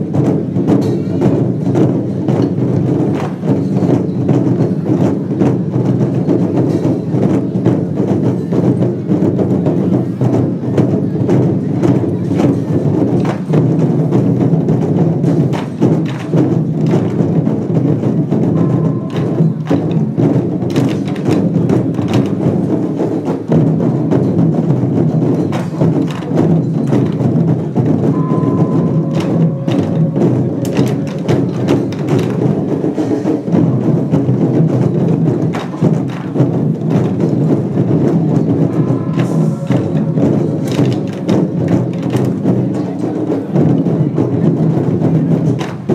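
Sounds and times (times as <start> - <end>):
drum gongs and cymbals: 0.0 - 45.9.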